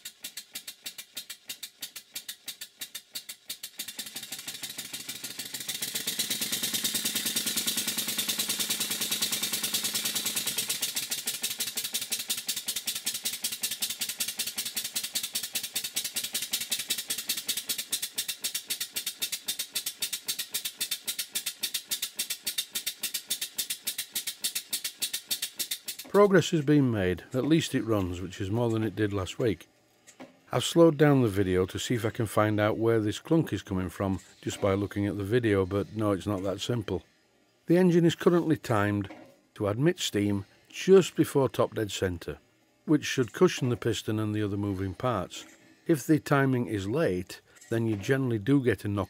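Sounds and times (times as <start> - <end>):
model engine mechanical beat: 0.0 - 37.0, 37.7 - 49.0.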